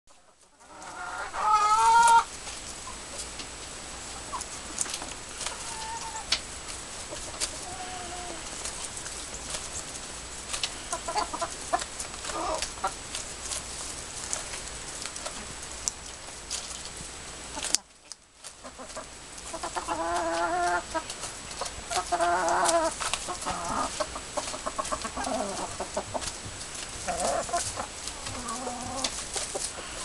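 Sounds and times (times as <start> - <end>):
hens clucking: 0.3 - 16.9, 17.5 - 30.0.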